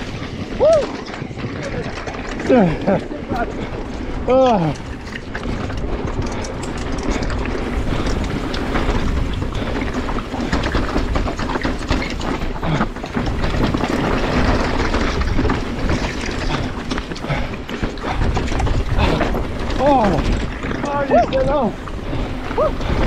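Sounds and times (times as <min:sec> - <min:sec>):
mountain bike clattering downhill: 0:00.0 - 0:23.0.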